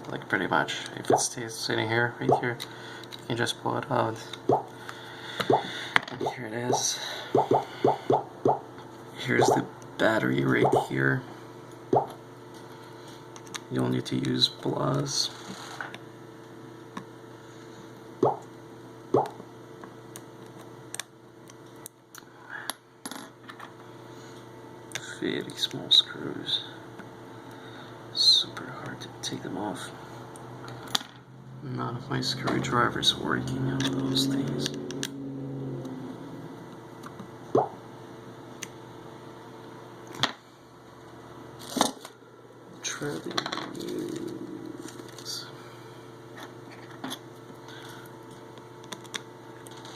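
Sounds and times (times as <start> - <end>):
steady low hum: 0.0 - 15.4, 23.8 - 49.9.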